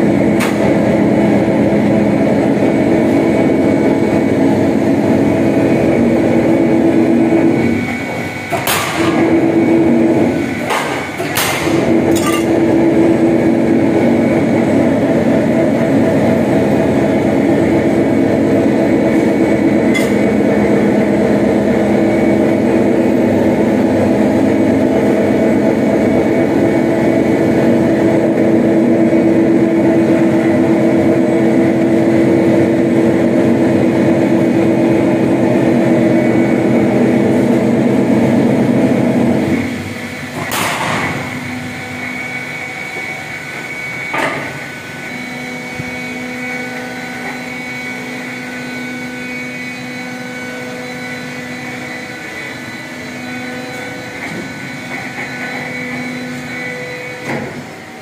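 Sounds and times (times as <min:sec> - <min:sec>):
machine humming: 0:00.0 - 0:58.0.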